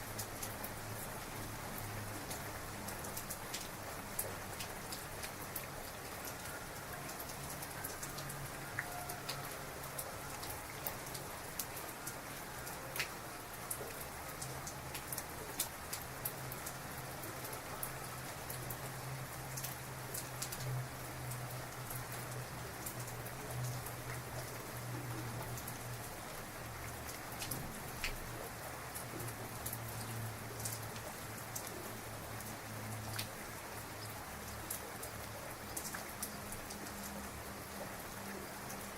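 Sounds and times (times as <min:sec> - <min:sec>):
heavy rain hiss: 0:00.0 - 0:38.9
raindrops ticking close by: 0:00.0 - 0:38.9.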